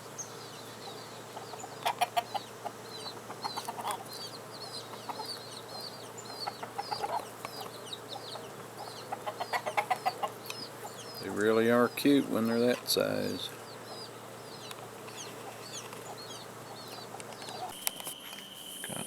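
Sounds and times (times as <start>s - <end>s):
chicks peeping: 0.0s - 17.8s
hen clucking: 0.3s - 17.8s.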